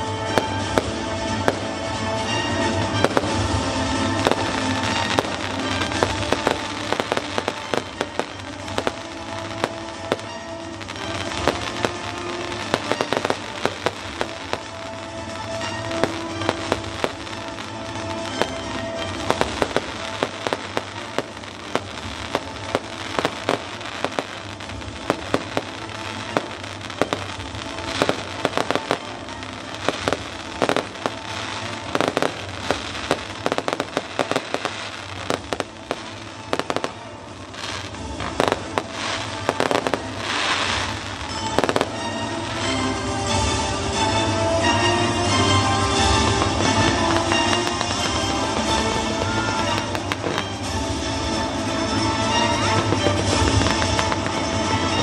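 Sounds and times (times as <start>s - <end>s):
fireworks exploding: 0.0s - 55.0s
music: 0.0s - 55.0s.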